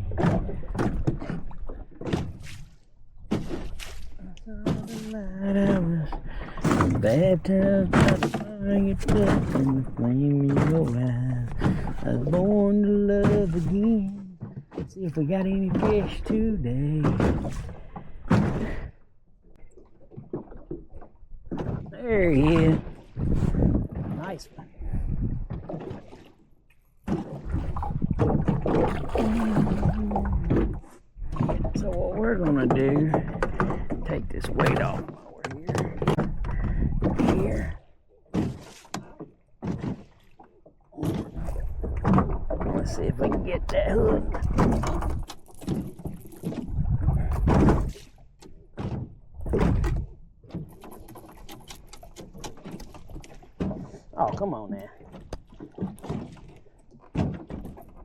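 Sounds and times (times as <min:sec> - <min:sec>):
water splashing against boat: 0:00.0 - 0:58.0.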